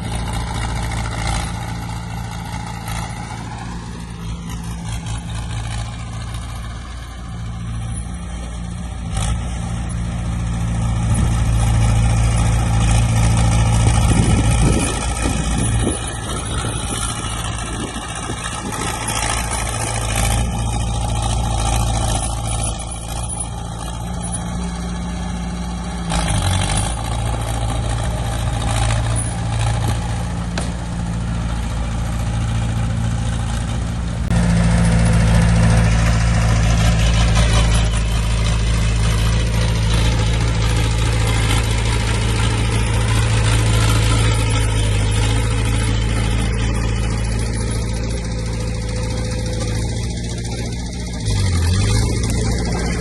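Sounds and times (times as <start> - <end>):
heavy diesel engines droning: 0.0 - 53.0.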